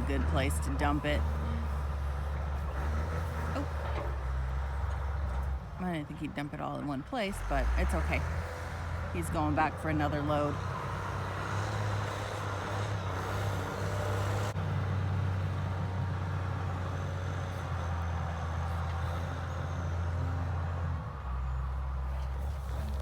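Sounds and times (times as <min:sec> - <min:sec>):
loader engine running: 0:00.0 - 0:23.0.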